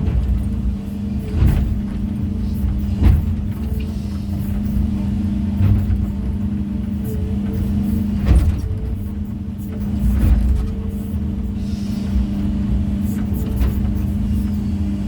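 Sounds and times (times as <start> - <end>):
construction machine engine running: 0.0 - 15.0.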